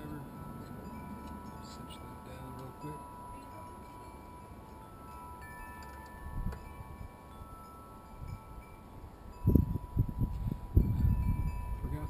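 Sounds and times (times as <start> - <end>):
wind chimes ringing: 0.0 - 12.0.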